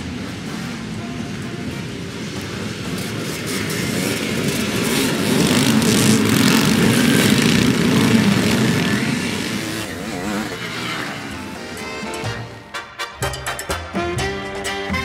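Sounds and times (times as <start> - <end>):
motocross motorcycles accelerating: 0.0 - 13.0.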